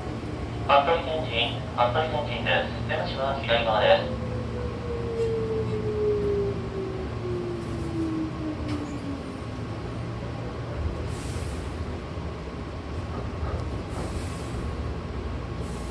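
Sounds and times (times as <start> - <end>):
train running rumble: 0.0 - 15.9.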